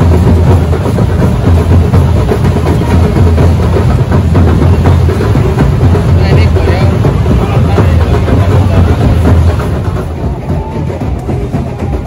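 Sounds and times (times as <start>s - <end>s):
heavy deep bass: 0.0s - 12.0s
loud music with drumming: 0.0s - 12.0s.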